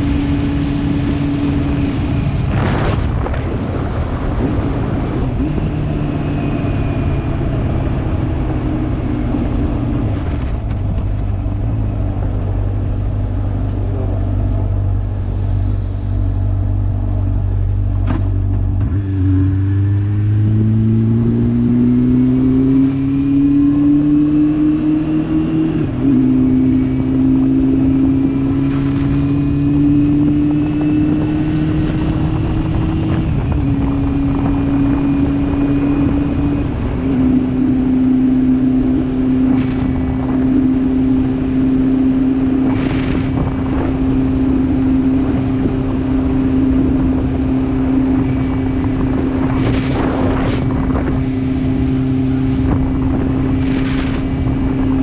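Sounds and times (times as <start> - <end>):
motorcycle engine accelerating: 0.0 - 55.0
wind rumble on microphone: 0.0 - 55.0.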